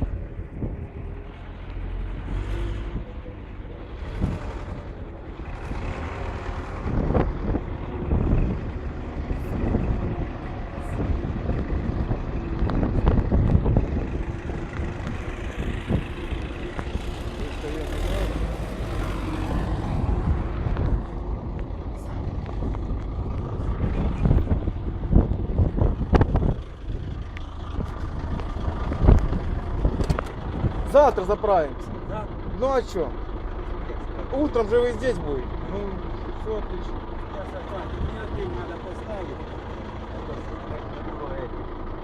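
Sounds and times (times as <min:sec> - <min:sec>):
vehicle engine rumbling: 0:00.0 - 0:42.0.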